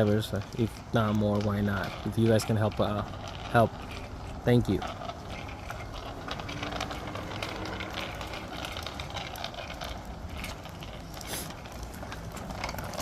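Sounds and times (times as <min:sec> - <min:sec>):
bicycle freewheel clicking: 0:00.0 - 0:13.0
low rumble of riding: 0:00.0 - 0:13.0.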